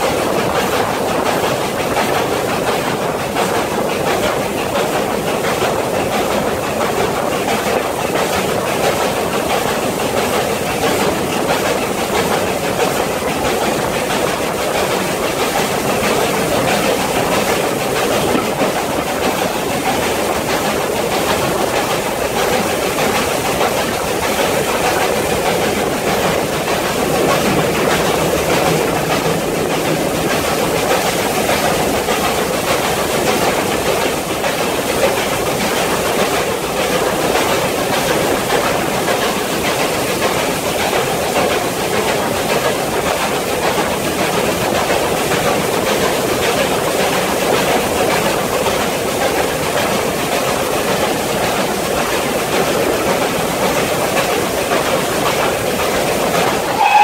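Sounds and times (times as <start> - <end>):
steam train running in tunnel: 0.0 - 57.0.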